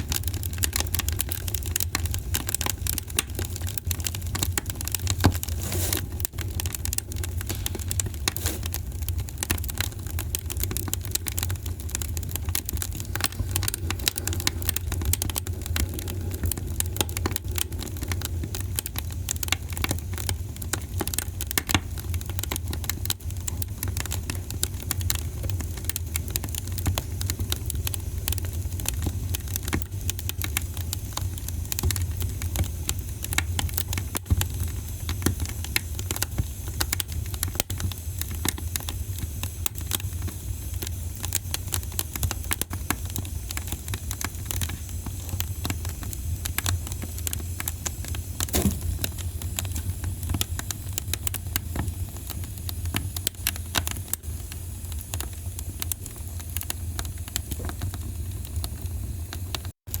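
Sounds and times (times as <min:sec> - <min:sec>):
fireplace fire crackling: 0:00.0 - 1:00.0.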